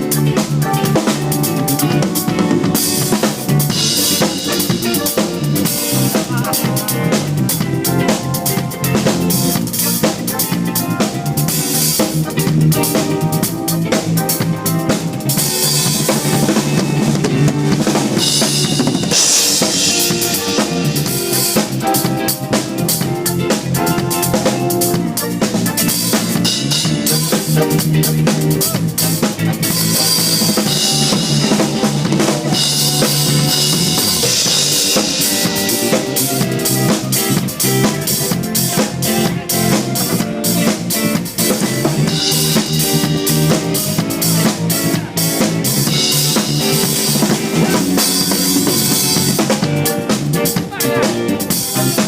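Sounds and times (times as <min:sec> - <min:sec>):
drum kit groove: 0:00.0 - 0:52.0
pitched accompaniment with bass: 0:00.0 - 0:52.0.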